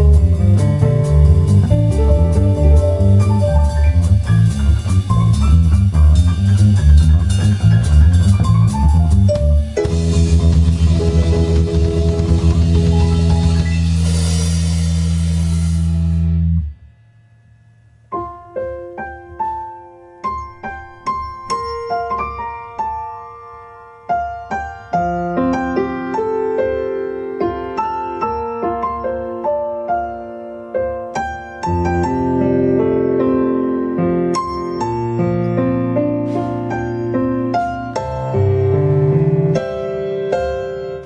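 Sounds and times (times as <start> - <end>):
solo piano notes: 0.0 - 14.8, 18.1 - 41.0
instrumental rock band with piano: 0.0 - 16.8, 18.0 - 41.0.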